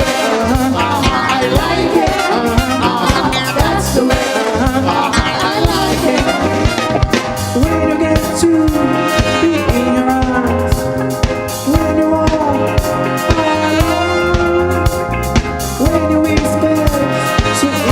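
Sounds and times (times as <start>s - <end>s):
upbeat pop music: 0.0s - 17.9s.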